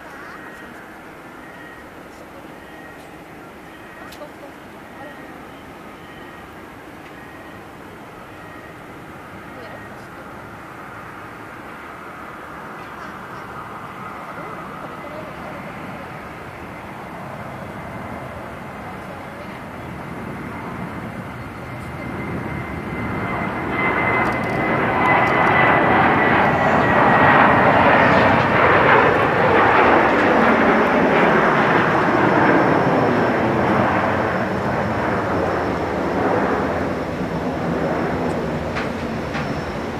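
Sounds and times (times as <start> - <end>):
jet engines at takeoff: 0.0 - 39.9.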